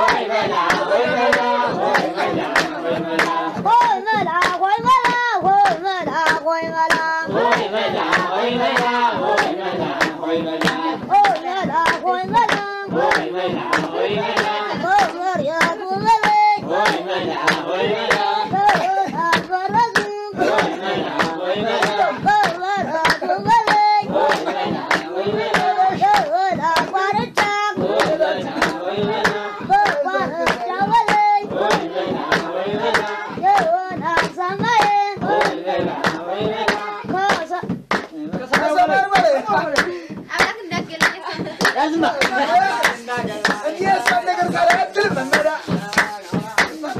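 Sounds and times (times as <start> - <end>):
group of voices singing: 0.0 - 46.9
hand clapping: 0.0 - 46.9.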